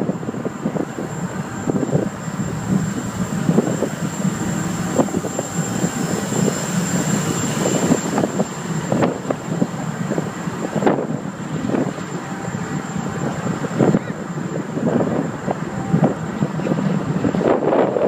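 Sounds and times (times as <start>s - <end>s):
ferry engine rumble: 0.0s - 18.0s
wind buffeting microphone: 0.0s - 18.0s.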